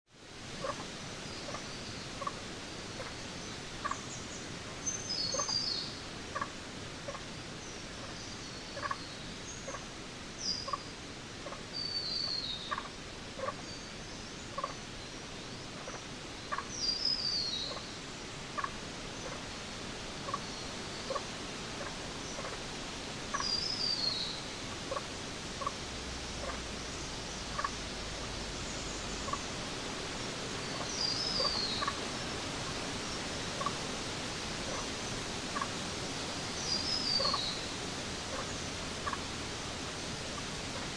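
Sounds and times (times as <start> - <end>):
steady hiss: 0.1 - 40.9.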